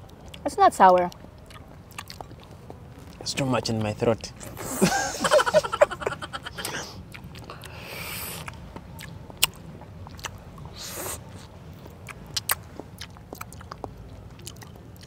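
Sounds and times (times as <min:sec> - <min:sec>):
wet chewing of fruit: 0:00.0 - 0:04.9, 0:06.5 - 0:15.0.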